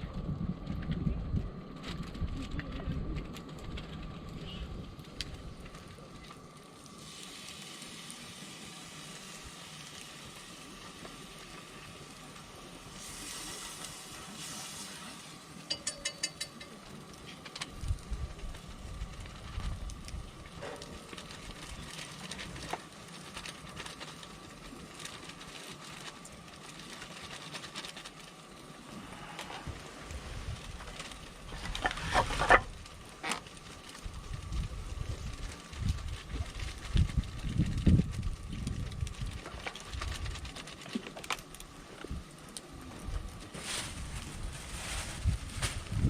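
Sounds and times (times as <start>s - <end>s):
campfire hissing and crackling: 0.0s - 46.0s.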